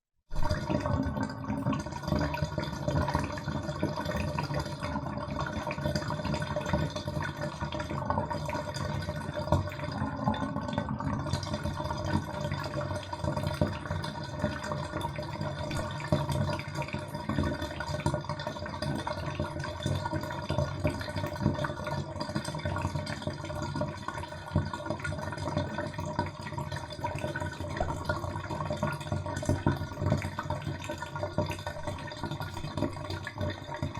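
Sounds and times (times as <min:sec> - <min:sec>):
bathtub water draining: 0:00.3 - 0:33.9.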